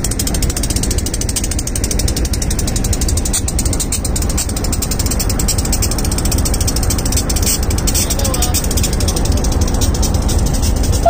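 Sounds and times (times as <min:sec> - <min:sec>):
diesel locomotive rumbling and clattering: 0:00.0 - 0:11.0.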